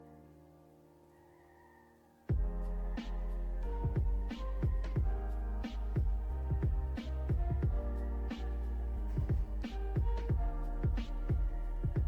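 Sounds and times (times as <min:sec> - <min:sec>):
soft sustained music chord: 0:02.3 - 0:12.0.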